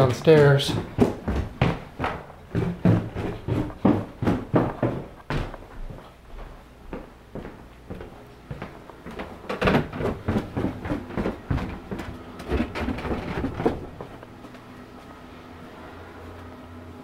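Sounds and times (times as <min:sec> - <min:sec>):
footsteps on wooden stairs: 0:00.0 - 0:15.1
steady machine hum: 0:00.0 - 0:17.0.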